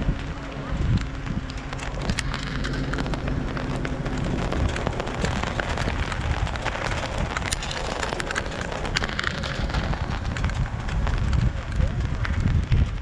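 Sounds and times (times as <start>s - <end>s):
engine low hum: 0.0s - 12.4s
tyres crunching over gravel: 0.0s - 13.0s.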